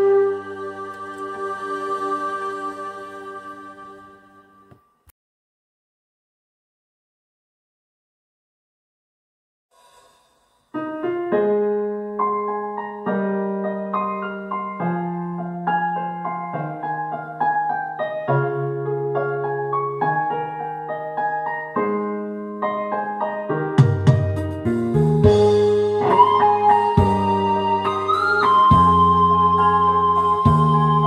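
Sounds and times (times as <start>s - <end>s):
slow piano melody: 0.0s - 5.0s, 10.7s - 31.0s.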